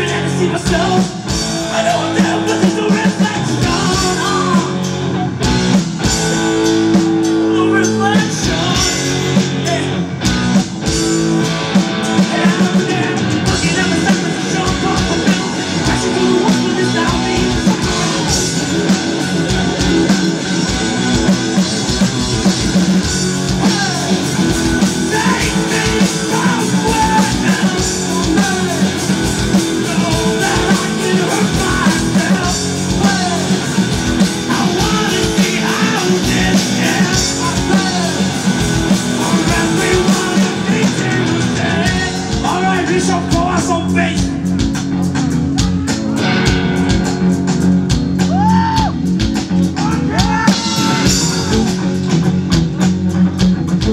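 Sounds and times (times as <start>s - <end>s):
bass guitar: 0.0s - 53.9s
drum kit: 0.0s - 53.9s
electric guitars: 0.0s - 53.9s.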